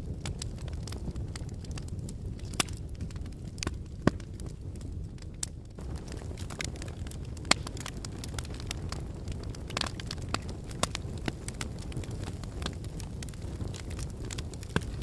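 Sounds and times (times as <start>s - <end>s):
fire low rumble: 0.0s - 15.0s
log fire crackling: 0.0s - 15.0s.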